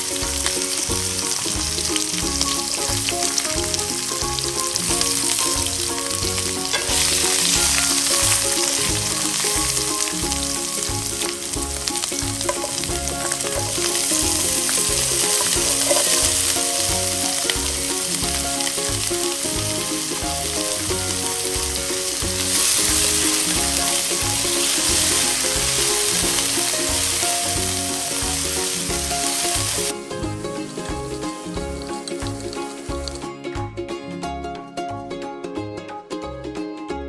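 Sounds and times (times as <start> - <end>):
vegetables sizzling in a wok: 0.0 - 33.3
background music with steady beat: 0.0 - 37.0.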